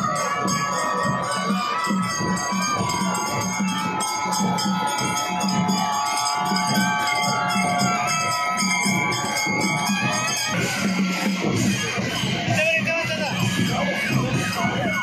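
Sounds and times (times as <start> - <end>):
drum beating: 0.0 - 15.0
jangling metal percussion: 0.0 - 15.0
marching folk band: 0.0 - 15.0
wind instruments holding notes: 0.0 - 15.0.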